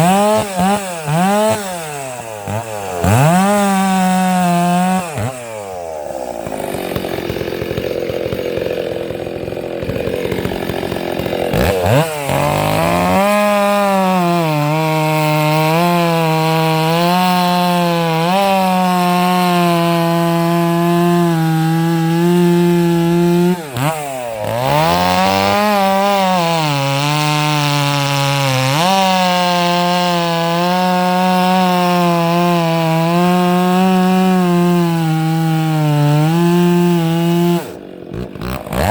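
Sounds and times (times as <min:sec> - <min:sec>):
chainsaw idling: 0:00.0 - 0:38.9
chainsaw revving and cutting wood: 0:00.0 - 0:38.9.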